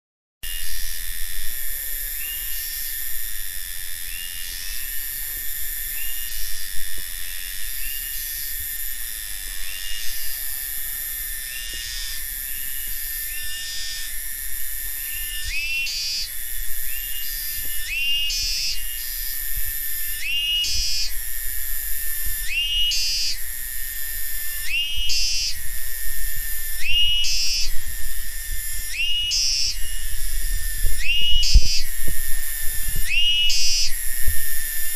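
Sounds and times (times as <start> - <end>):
cicadas droning: 0.4 - 34.9
short rising cicada calls: 0.4 - 34.9.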